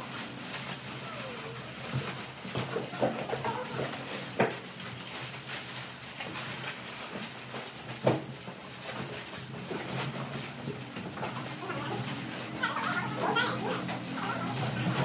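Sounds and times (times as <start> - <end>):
plastic bags rustling: 0.0 - 15.0.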